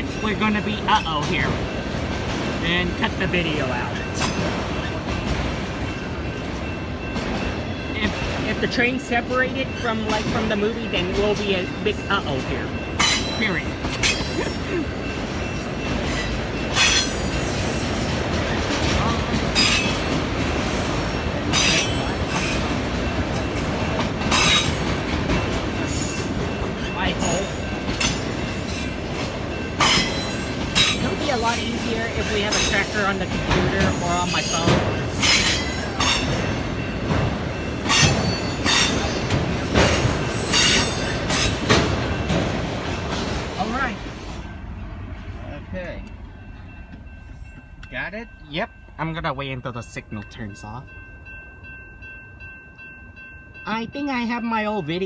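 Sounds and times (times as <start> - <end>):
freight train cars rumbling: 0.0 - 55.0.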